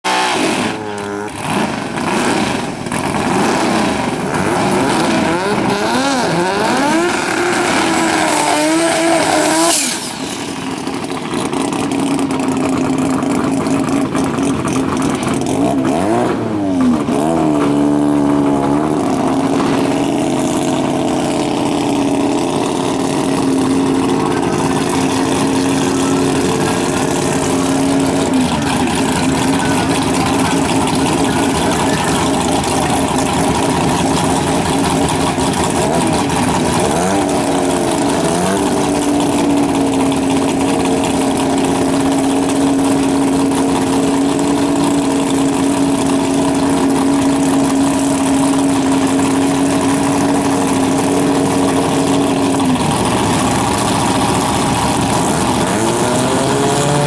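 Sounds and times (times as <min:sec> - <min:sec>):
race car engines revving: 0:00.0 - 0:57.0
car engines lumpy idle: 0:00.6 - 0:57.0.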